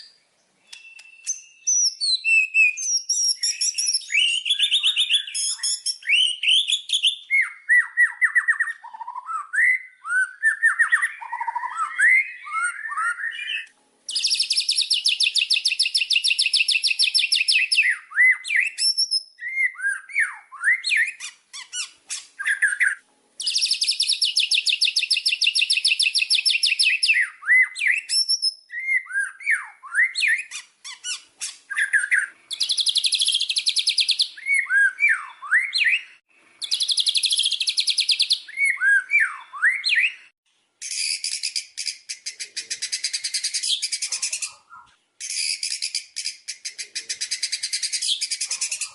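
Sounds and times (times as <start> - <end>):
songbird whistling phrases: 0.0 - 48.9.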